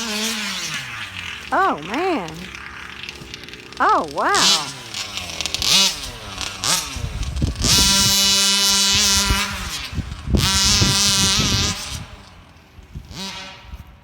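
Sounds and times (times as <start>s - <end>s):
small two-stroke engine revving: 0.0s - 14.0s.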